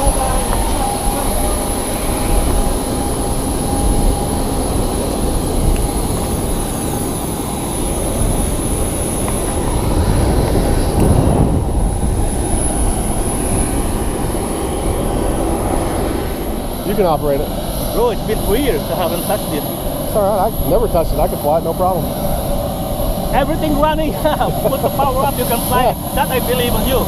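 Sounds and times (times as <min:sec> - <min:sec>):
high-pitched turbine whine: 0:00.0 - 0:27.0
jet turbine engine roaring: 0:00.0 - 0:27.0.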